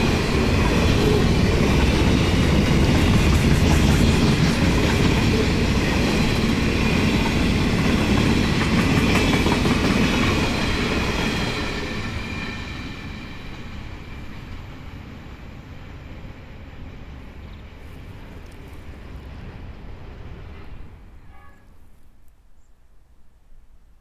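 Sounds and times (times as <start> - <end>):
freight train rolling on rails: 0.0 - 21.6.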